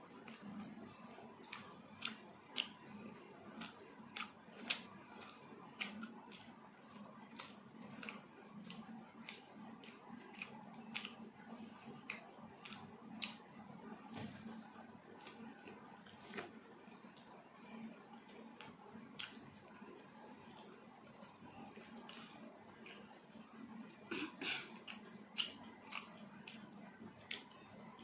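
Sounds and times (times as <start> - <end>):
person chewing food: 0.1 - 28.0.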